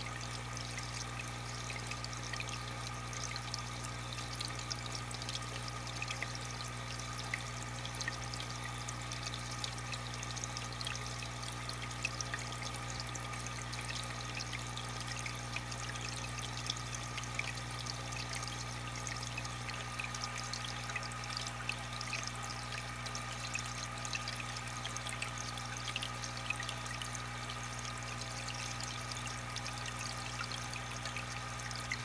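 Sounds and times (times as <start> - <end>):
aquarium water trickling and bubbling: 0.0 - 32.0.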